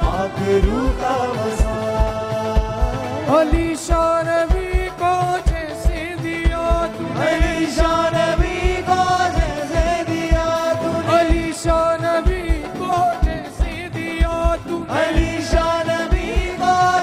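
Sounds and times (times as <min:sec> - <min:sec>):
people singing worship song: 0:00.0 - 0:17.0.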